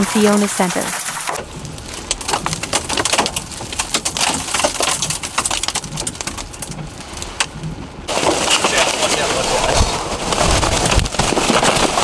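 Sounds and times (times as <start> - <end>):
heavy rain on microphone: 0.0 - 12.0.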